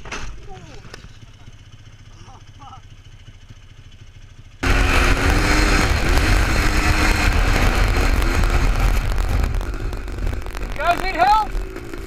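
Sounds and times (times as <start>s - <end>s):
atv engine running hard: 0.0s - 12.0s.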